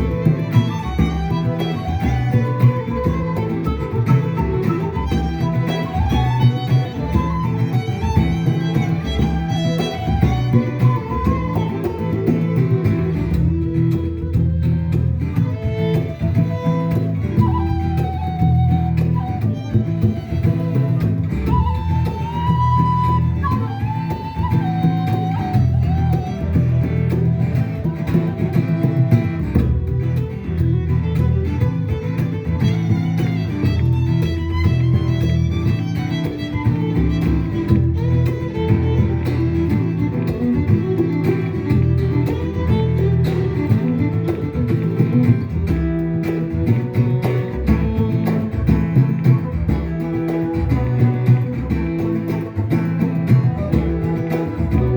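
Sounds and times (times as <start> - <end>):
acoustic guitar: 0.0 - 54.9
low accompaniment: 0.0 - 54.9
sliding folk melody: 0.0 - 54.9.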